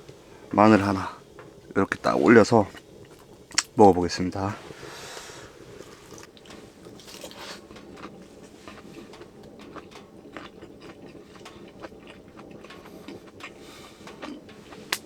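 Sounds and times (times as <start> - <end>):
person chewing crunchy food: 1.6 - 3.8, 4.4 - 15.0.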